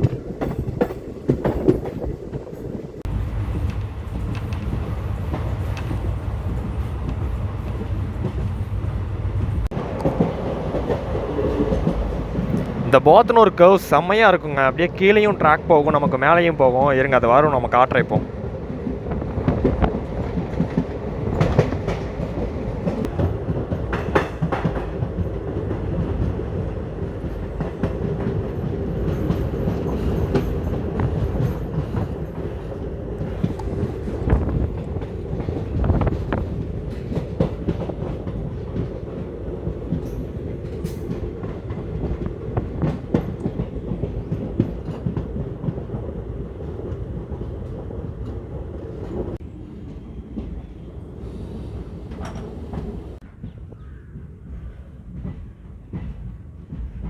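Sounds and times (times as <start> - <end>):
wheels clacking over rail joints: 0.0 - 50.6, 51.2 - 53.6
train wheels rumbling on rail: 0.0 - 57.0.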